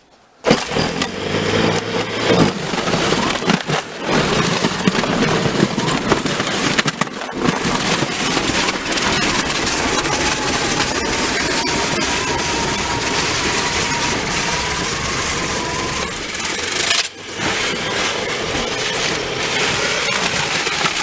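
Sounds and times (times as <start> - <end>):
electric snow blower running: 0.5 - 21.0
sharp clicks and knocks: 0.5 - 21.0.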